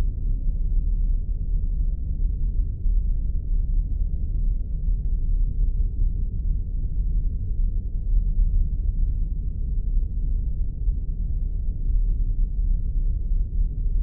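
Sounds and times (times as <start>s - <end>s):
deep rumbling spaceship drone: 0.0s - 14.0s.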